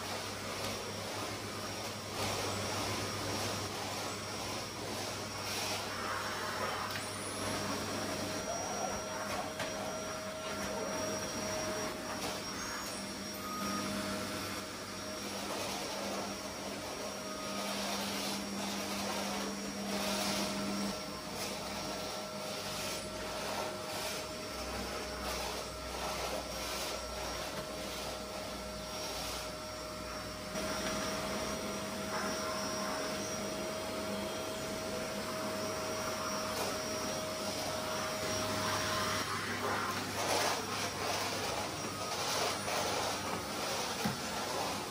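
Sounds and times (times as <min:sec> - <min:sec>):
vacuum cleaner whining: 0:00.0 - 0:44.9.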